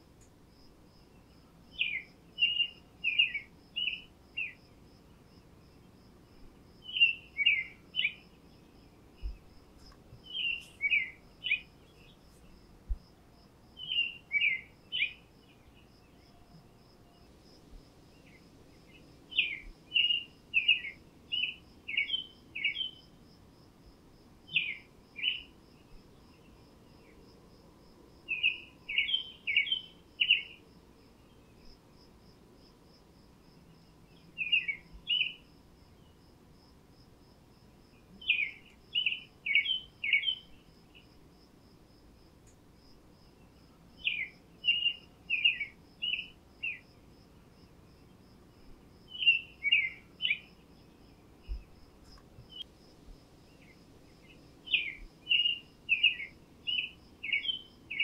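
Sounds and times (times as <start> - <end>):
songbird singing: 0.0 - 23.7, 24.4 - 36.7, 37.4 - 41.4, 42.2 - 58.0
cricket chirping: 0.0 - 58.0.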